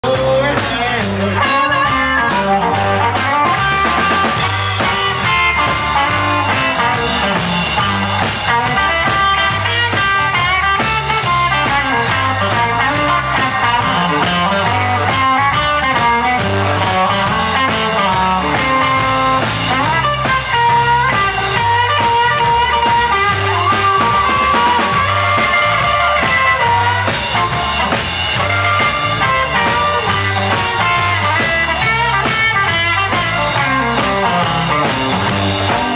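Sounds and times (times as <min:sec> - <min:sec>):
bass guitar: 0:00.0 - 0:35.9
drum kit steady beat: 0:00.0 - 0:35.9
electric guitar: 0:00.0 - 0:35.9
harmonica: 0:00.8 - 0:35.9.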